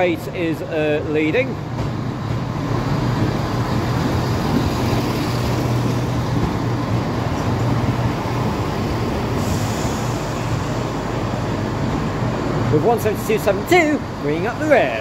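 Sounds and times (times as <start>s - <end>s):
diesel train engine hum: 0.0s - 15.0s
train wheels rolling: 0.0s - 15.0s.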